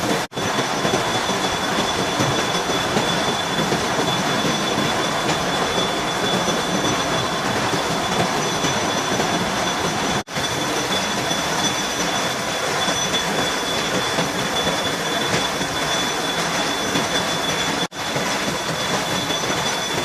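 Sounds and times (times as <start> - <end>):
milling machine grinding metal: 0.0 - 20.0.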